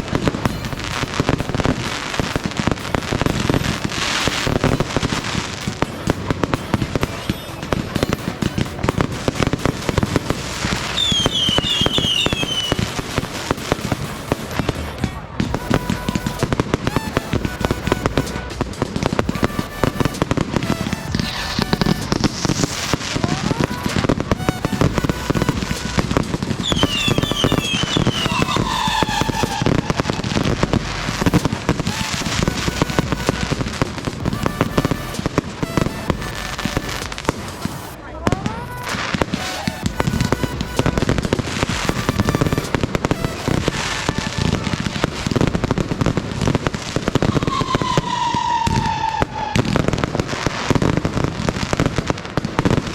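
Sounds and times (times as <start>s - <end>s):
fireworks crackling bangs: 0.0s - 52.9s
falling firework whistles: 6.9s - 14.7s, 15.5s - 38.0s, 38.8s - 52.9s.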